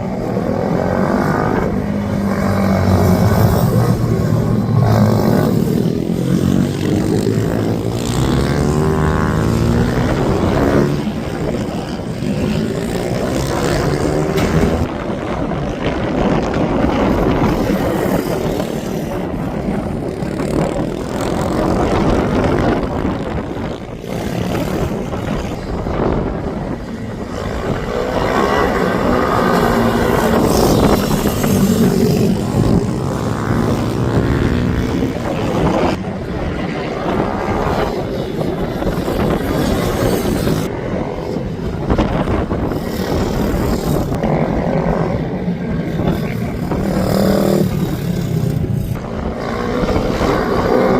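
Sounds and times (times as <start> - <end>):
minibike engines racing: 0.0 - 50.9.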